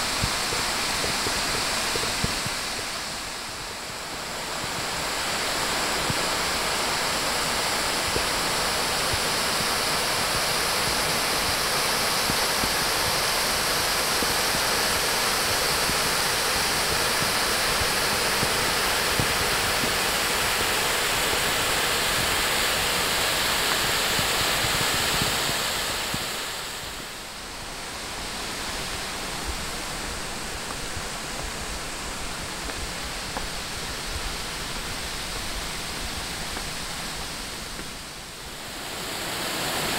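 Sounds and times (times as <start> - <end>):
white water rushing over rock: 0.0 - 39.9.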